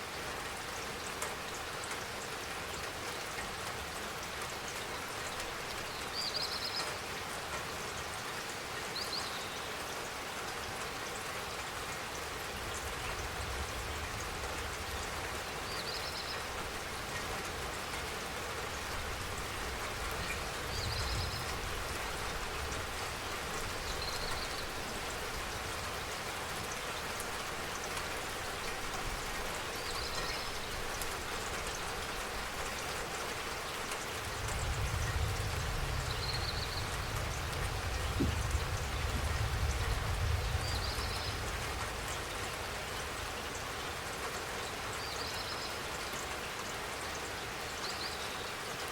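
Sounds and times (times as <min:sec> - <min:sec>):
rain pattering: 0:00.0 - 0:48.9.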